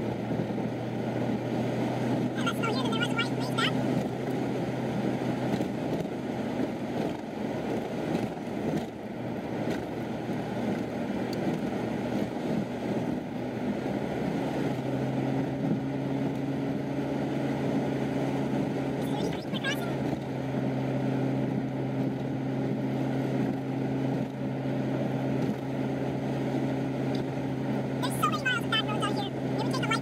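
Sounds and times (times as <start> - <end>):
engine drone inside vehicle: 0.0 - 30.0.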